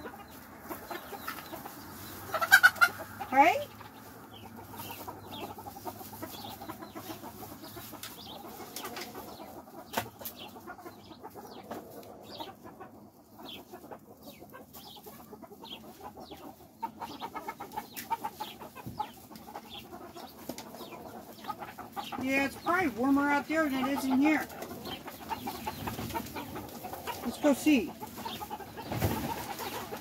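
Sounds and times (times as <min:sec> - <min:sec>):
chickens clucking softly: 0:00.0 - 0:30.0.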